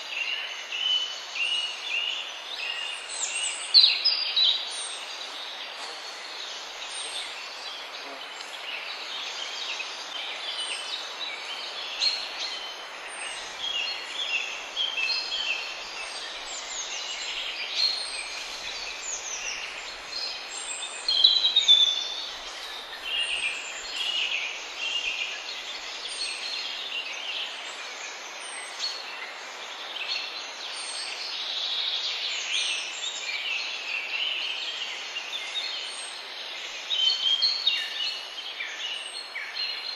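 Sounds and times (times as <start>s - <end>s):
songbirds chirping and trilling: 0.0s - 39.9s
steady hiss: 0.0s - 39.9s.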